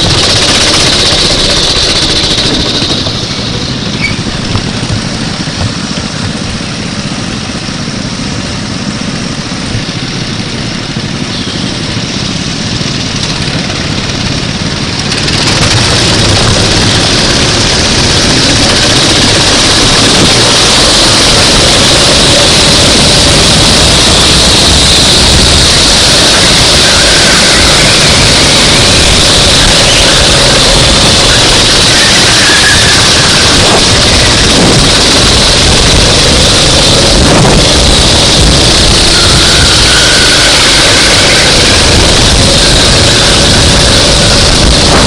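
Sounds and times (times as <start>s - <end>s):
go-kart engine running: 0.0s - 45.0s.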